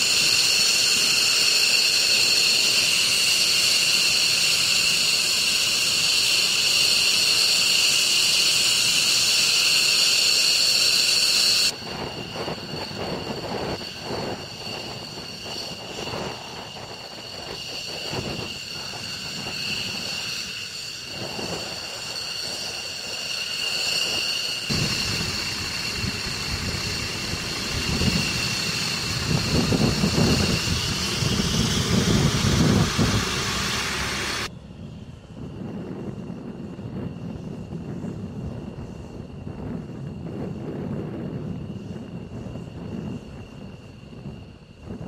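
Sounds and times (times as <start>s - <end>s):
jet turbine whine: 0.0s - 45.0s
rumbling jet noise: 0.0s - 45.0s.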